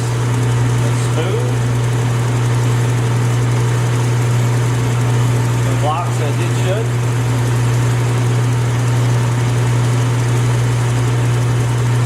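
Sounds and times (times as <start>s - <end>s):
lathe running low hum: 0.0s - 12.0s.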